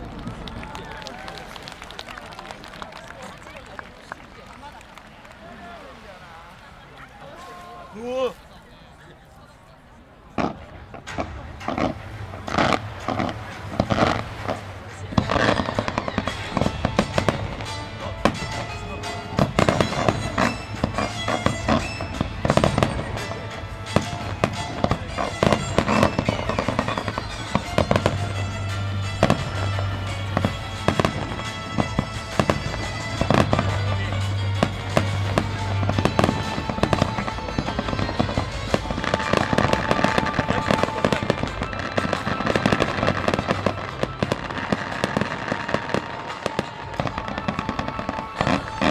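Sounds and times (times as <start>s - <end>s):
fireworks bursting bangs: 0.0s - 8.8s, 10.1s - 48.9s
fireworks crackling: 0.0s - 48.9s.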